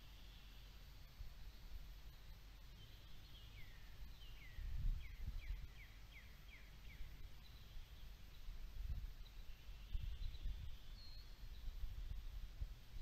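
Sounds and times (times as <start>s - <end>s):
bird singing faintly: 0.0s - 13.0s.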